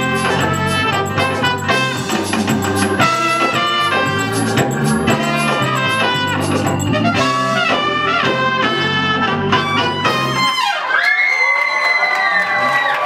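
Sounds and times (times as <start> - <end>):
organ accompaniment: 0.0 - 10.6
trumpets playing melody: 0.0 - 10.9.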